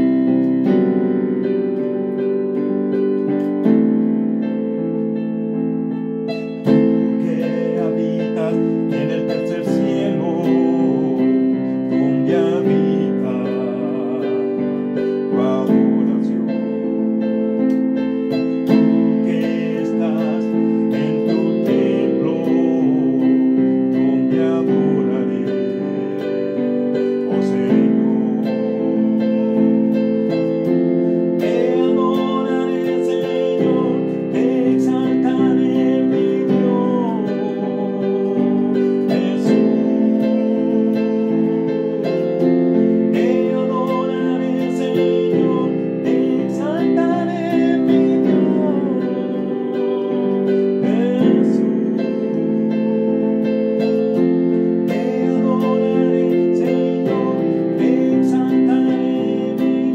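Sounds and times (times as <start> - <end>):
electronic keyboard chords and melody: 0.0 - 59.9
man singing: 6.3 - 59.9.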